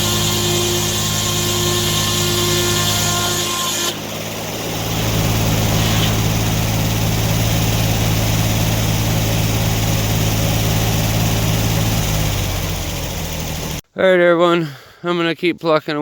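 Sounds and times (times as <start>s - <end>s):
sawmill engine running: 0.0s - 13.8s.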